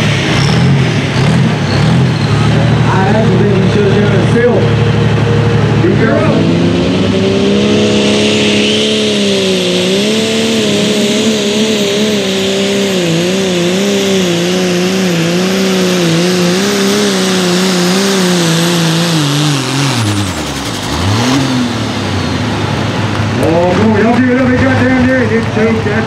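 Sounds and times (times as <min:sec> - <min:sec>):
high steady whine: 0:00.0 - 0:21.0
diesel tractor engine under load: 0:00.0 - 0:26.0.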